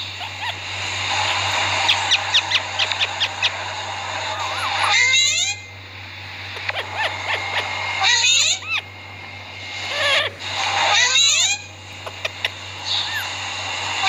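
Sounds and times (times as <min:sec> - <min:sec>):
parakeet chirping and warbling: 0:00.0 - 0:05.8, 0:06.4 - 0:09.0, 0:09.6 - 0:14.0.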